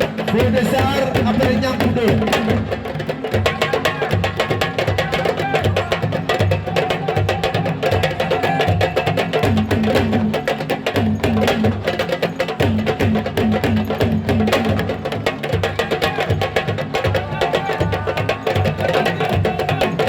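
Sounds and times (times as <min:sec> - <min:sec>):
fast sharp drum strokes: 0:00.0 - 0:20.0
repeating low drum beat: 0:00.0 - 0:20.0.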